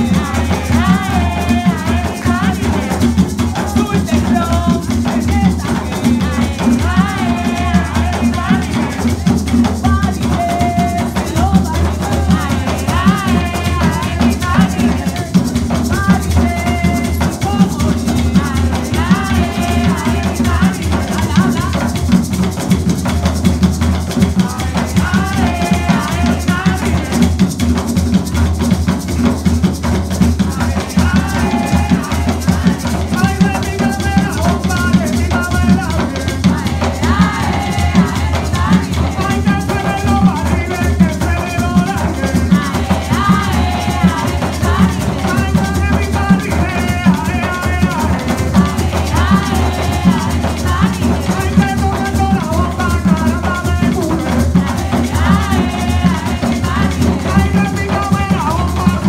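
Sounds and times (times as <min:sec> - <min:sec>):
barrel drums playing rhythm: 0:00.0 - 0:59.0.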